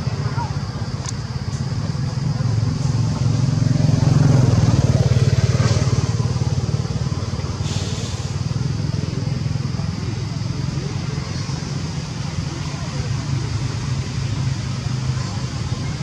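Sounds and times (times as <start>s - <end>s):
motor engine rumbling: 0.0s - 16.0s.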